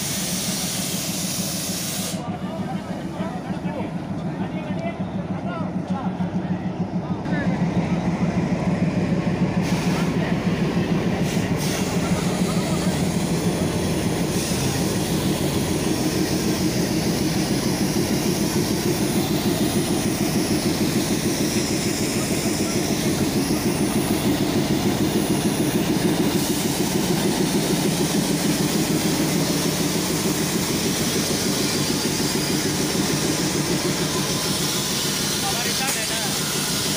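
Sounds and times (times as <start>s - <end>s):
locomotive engine idling: 0.0s - 36.9s.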